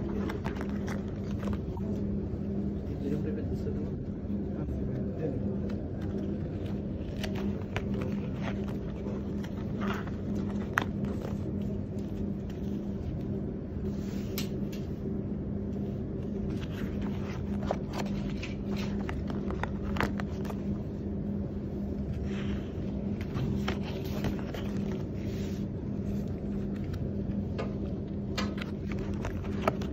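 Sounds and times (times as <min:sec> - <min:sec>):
machine hum: 0:00.0 - 0:29.9.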